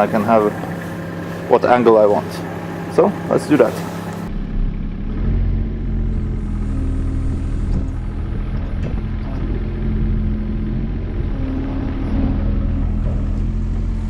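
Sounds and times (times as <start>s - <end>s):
excavator diesel engine running: 0.0s - 14.0s
hydraulics whine: 0.0s - 14.0s.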